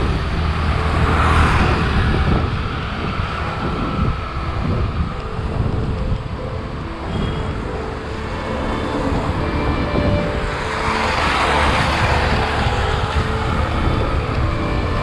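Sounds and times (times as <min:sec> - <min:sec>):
passing vehicle hiss: 0:00.0 - 0:15.0
road traffic: 0:00.0 - 0:15.0
wind rumbling on microphone: 0:00.0 - 0:15.0.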